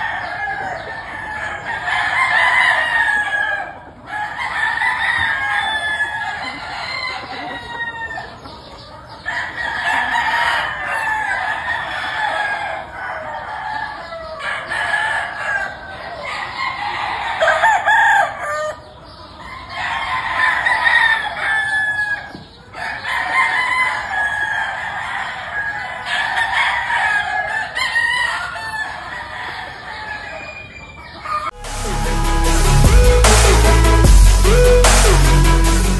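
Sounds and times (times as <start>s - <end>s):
chickens clucking: 0.0s - 31.6s
roosters crowing: 0.0s - 35.9s.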